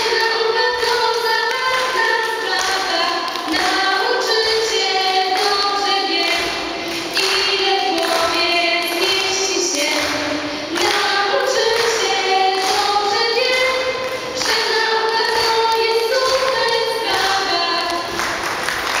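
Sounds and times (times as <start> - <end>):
girls singing into microphones: 0.0 - 19.0.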